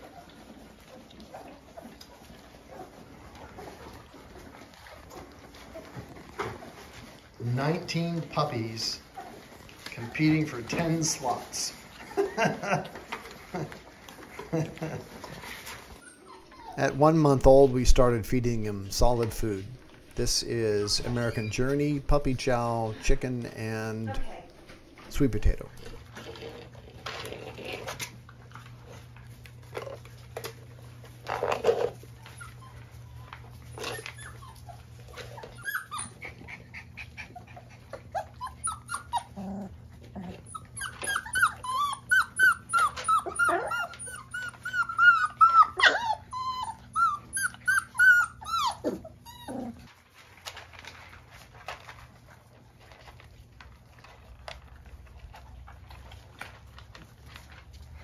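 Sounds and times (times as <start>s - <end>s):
puppies whimpering and whining: 0.0s - 18.3s, 19.0s - 23.5s, 25.8s - 52.0s
puppies eating from plastic bowl: 0.0s - 58.0s.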